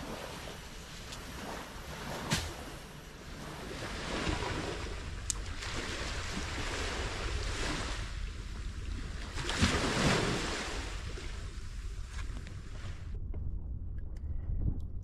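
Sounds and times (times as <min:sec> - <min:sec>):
sea waves washing onto shore: 0:00.0 - 0:13.0
wind rumbling on microphone: 0:00.0 - 0:15.0.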